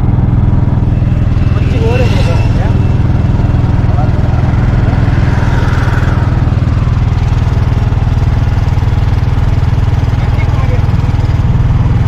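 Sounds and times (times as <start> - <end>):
auto-rickshaw engine running: 0.0 - 12.0.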